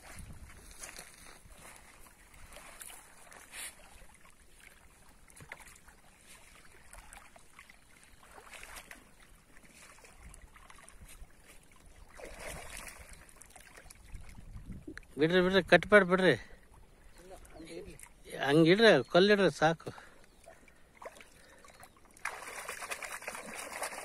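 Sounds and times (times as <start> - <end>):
shallow water splashing: 0.0 - 15.2, 19.9 - 24.0.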